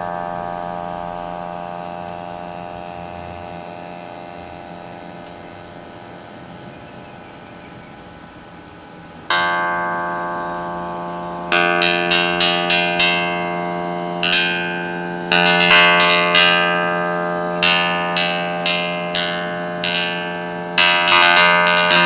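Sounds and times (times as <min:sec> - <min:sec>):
synthesized ringing note: 0:00.0 - 0:22.0.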